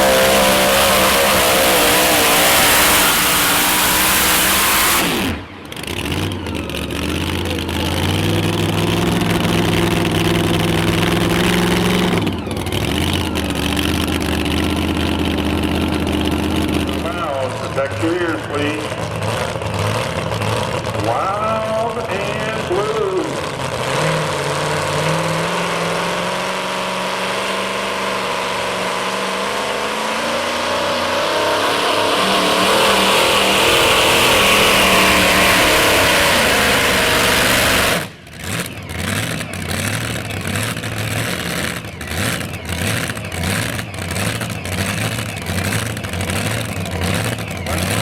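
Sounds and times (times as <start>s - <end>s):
pulling truck engine under load: 0.0s - 48.0s
uneven pulsing engine: 0.0s - 48.0s.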